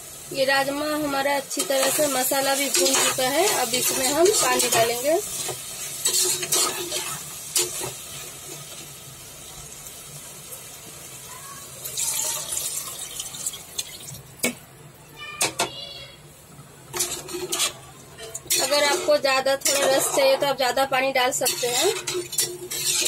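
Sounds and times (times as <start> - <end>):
water splashing and sizzling in pan: 0.0 - 14.7, 15.4 - 23.0.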